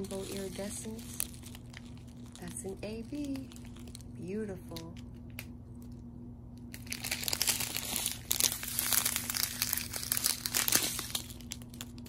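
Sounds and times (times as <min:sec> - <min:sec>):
plastic bags crinkling: 0:00.0 - 0:04.3, 0:06.6 - 0:12.0.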